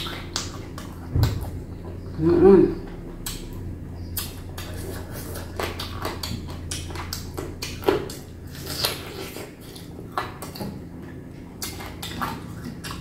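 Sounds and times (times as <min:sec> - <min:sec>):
wet crunching and chewing: 0:00.0 - 0:13.0.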